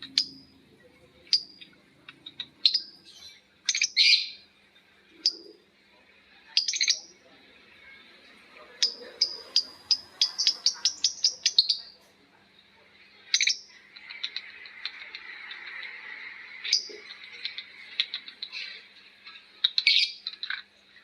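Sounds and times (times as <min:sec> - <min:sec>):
lovebirds chirping and chattering: 0:00.0 - 0:21.0.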